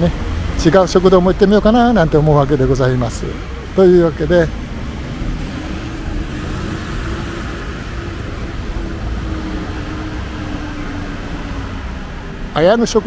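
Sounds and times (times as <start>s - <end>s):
passing and idling cars: 0.0s - 13.0s.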